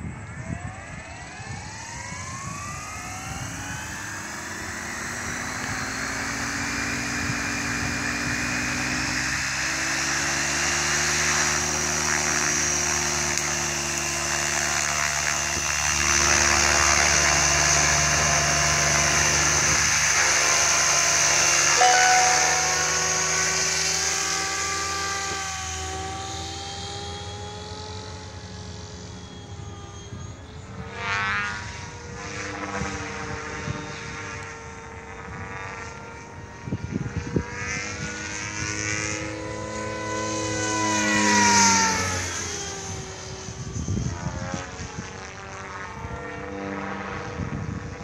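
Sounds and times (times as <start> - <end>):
remote control helicopter whine: 0.0 - 48.0.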